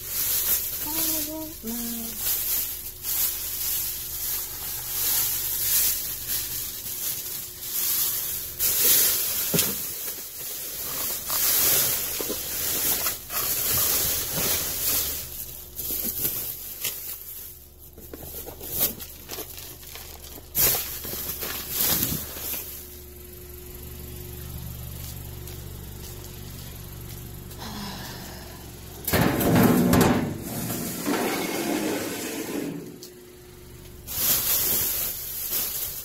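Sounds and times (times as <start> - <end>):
plastic bags rustling: 0.0 - 28.0, 32.6 - 36.0.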